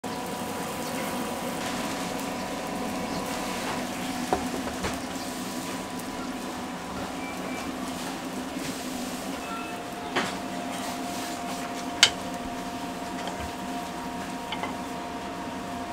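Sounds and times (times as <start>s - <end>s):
mechanical hum and hiss: 0.0s - 15.9s.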